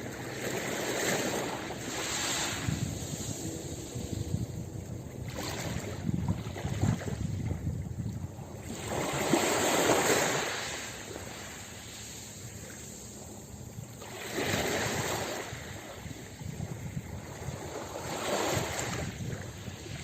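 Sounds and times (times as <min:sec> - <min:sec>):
ocean waves breaking on a beach: 0:00.0 - 0:20.0.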